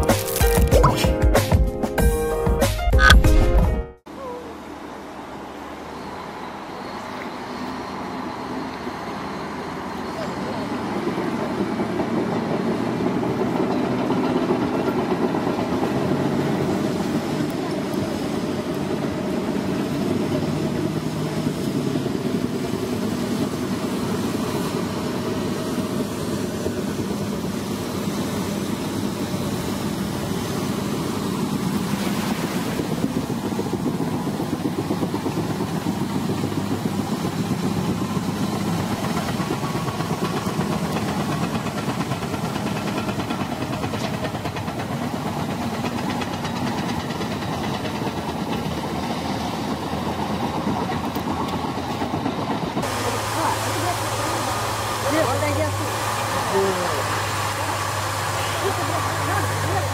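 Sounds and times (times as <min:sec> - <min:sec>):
bulldozer diesel engine running: 0:04.4 - 0:32.0, 0:32.8 - 0:59.9.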